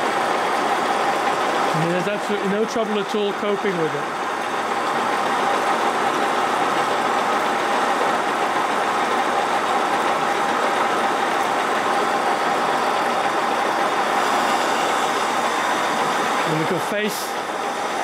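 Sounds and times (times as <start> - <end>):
metal lathe whirring: 0.0 - 18.0.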